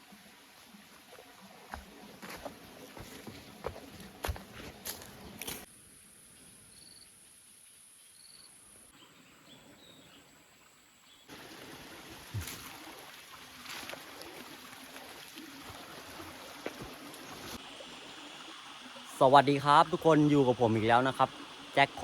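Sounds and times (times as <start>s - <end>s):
stream trickling: 0.0s - 5.7s, 9.0s - 22.0s.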